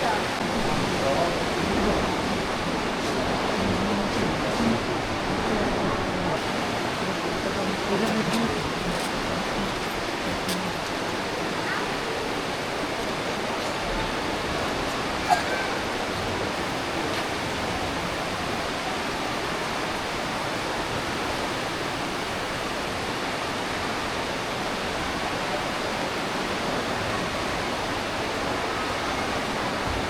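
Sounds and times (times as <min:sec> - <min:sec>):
river water rushing through gorge: 0:00.0 - 0:30.0.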